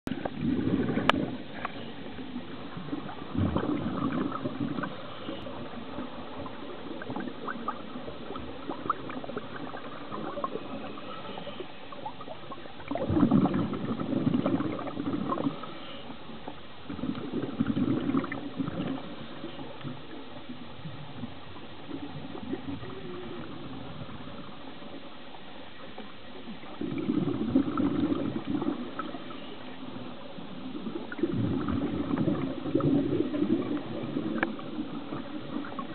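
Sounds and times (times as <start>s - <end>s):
faint crackling clicks: 0.1s - 26.8s, 28.0s - 35.9s
underwater exhaust bubbles gurgling: 0.1s - 35.9s.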